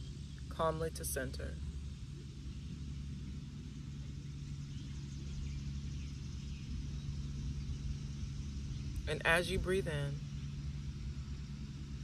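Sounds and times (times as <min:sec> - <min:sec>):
faint constant hum: 0:00.0 - 0:12.0
low background rumble: 0:00.0 - 0:12.0.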